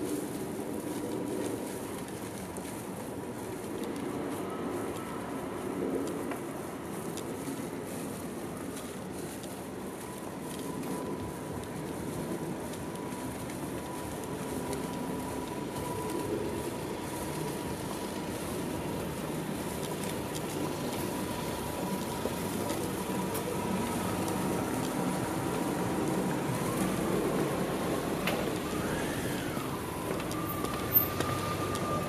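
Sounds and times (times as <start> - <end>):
thin steady whine: 0.0 - 32.0
traffic noise: 0.0 - 32.0.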